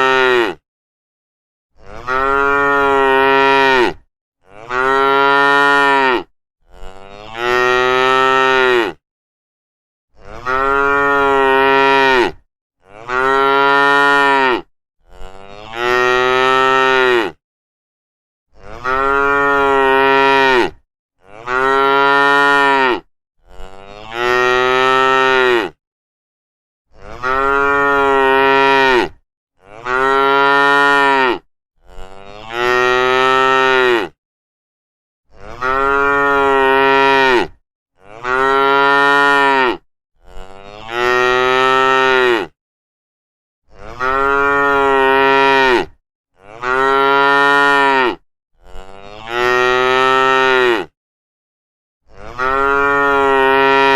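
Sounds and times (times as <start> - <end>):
cattle mooing: 1.8 - 9.0, 10.2 - 17.4, 18.6 - 25.8, 27.0 - 34.2, 35.4 - 42.6, 43.8 - 50.9, 52.2 - 53.9.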